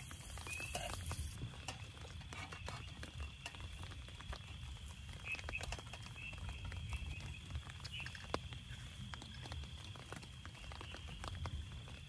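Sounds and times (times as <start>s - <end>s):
rain pattering on tent fabric: 0.0s - 12.0s.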